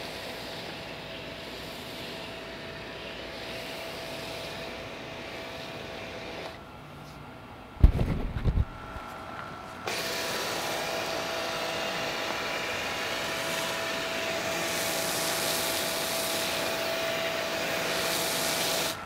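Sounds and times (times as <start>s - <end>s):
pressure washer spray hiss: 0.0s - 6.4s, 9.9s - 19.0s
faint motor hum: 0.0s - 19.0s.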